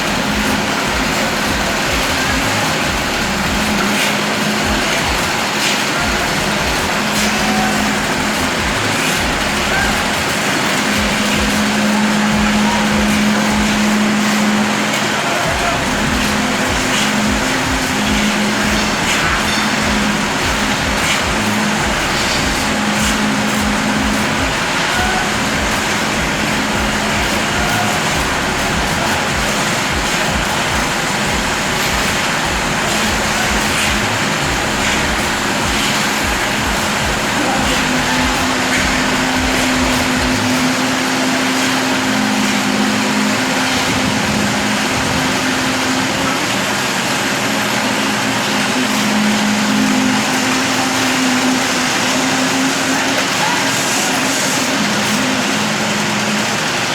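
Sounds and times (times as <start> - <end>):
loud rushing noise: 0.0 - 56.9
steady engine noise: 0.0 - 56.9.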